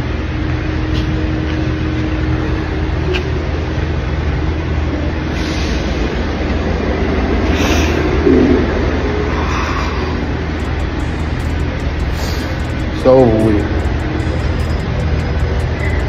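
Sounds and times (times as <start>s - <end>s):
faint steady hum: 0.0s - 16.0s
low rumble and hiss: 0.0s - 16.0s.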